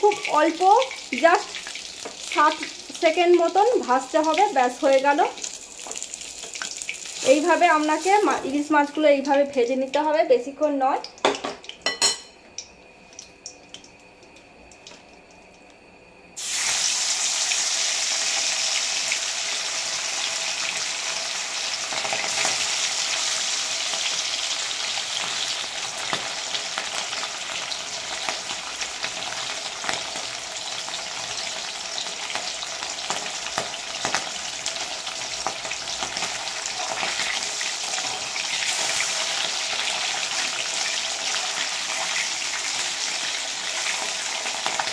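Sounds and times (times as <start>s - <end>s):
fish sizzling in hot oil: 0.0s - 10.1s, 16.4s - 44.9s.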